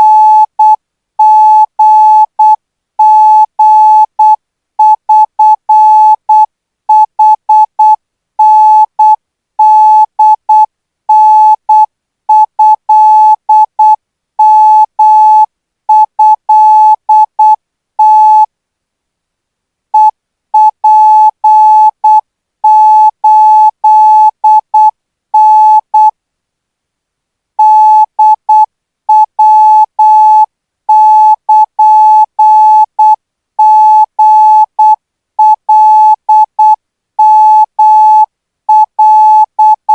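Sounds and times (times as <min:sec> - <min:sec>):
morse code beeps: 0:00.0 - 0:18.5, 0:20.0 - 0:26.1, 0:27.6 - 0:39.9.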